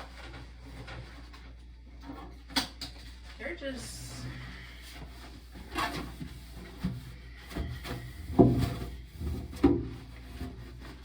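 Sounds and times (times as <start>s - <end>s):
objects clunking and knocking: 0.0s - 3.4s, 4.2s - 11.0s.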